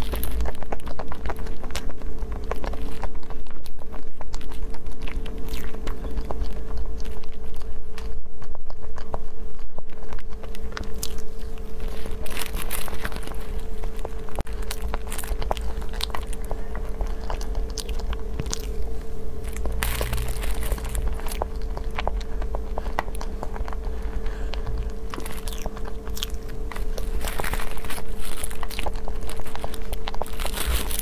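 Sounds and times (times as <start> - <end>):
chewing cake mouth sounds: 0.0 - 31.0.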